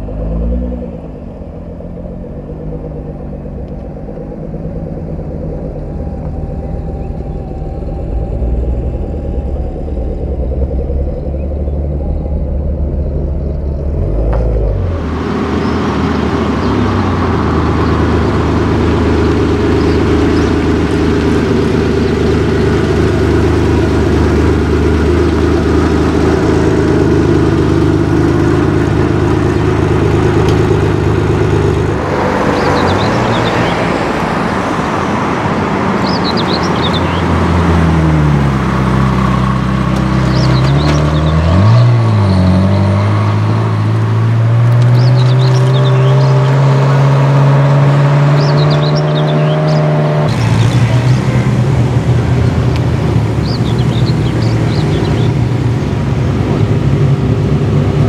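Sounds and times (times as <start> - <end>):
car engine at low revs: 0.0 - 58.0
car engine driving by: 0.0 - 58.0.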